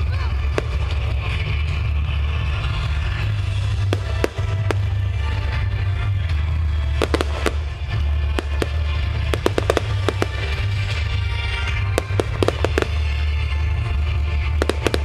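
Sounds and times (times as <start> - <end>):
fireworks cracking and popping: 0.0 - 15.0
music playing: 0.0 - 15.0.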